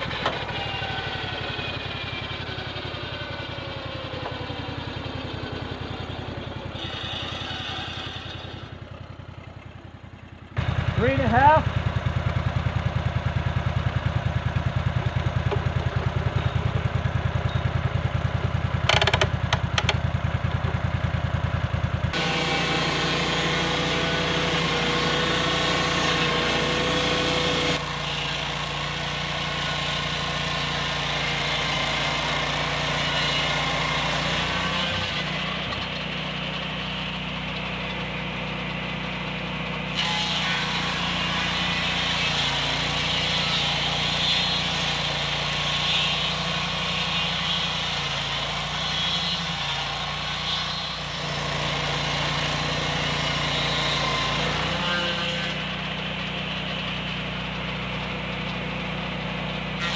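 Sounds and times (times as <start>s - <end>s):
sawmill cutting log: 0.0s - 59.9s.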